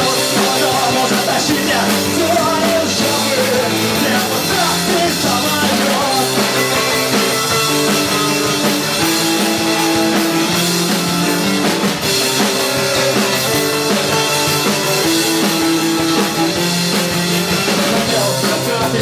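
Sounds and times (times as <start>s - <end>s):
bass guitar: 0.0s - 19.0s
drum kit: 0.0s - 19.0s
electric guitars sustained chords: 0.0s - 19.0s.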